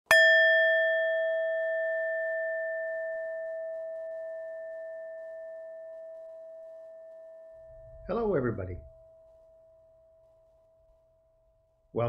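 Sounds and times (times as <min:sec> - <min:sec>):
meditation bell ringing: 0:00.1 - 0:11.5.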